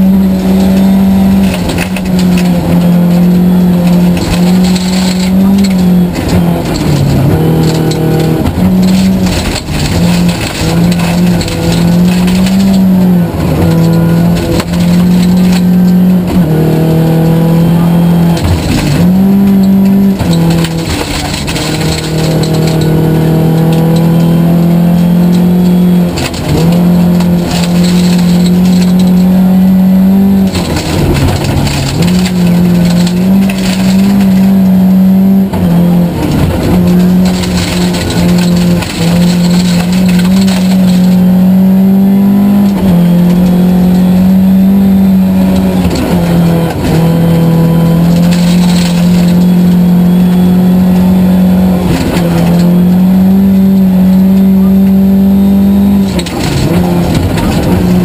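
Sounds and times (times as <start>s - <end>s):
car engine revving: 0.0s - 58.0s
road noise on gravel: 0.0s - 58.0s.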